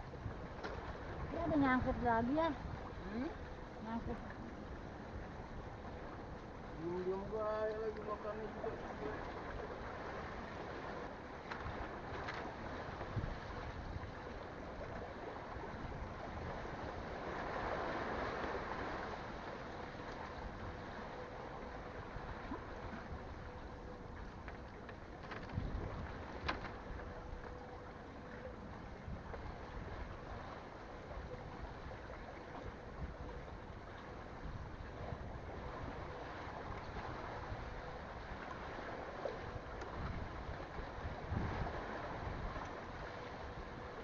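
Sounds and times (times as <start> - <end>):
faint steady hum: 0.0 - 44.0
sea water: 0.0 - 44.0
wind: 0.0 - 44.0.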